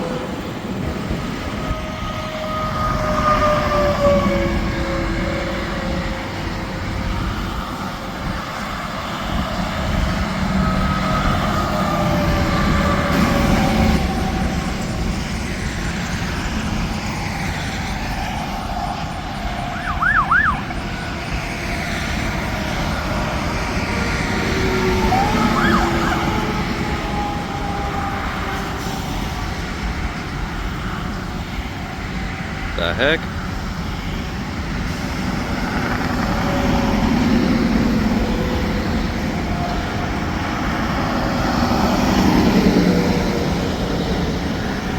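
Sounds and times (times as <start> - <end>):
highway traffic passing: 0.0 - 44.9.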